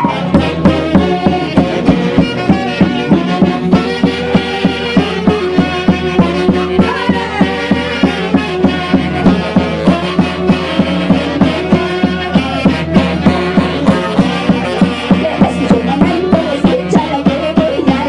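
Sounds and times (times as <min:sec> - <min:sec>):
live band music: 0:00.0 - 0:18.0.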